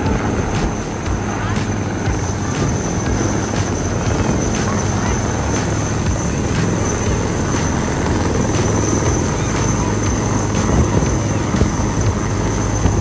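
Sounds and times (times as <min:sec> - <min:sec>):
helicopter rumble: 0:00.0 - 0:13.0.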